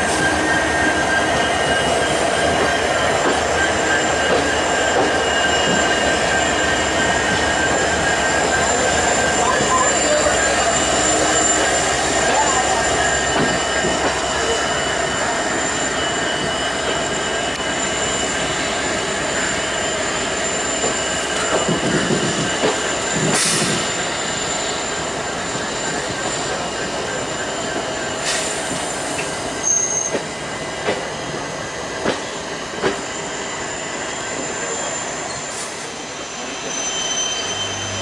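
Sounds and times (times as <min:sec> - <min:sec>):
rail-joint clicks: 0:00.0 - 0:18.9, 0:19.5 - 0:24.1, 0:25.9 - 0:33.1
rumble of train coaches: 0:00.0 - 0:38.0
train wheels squealing on rails: 0:00.0 - 0:38.0.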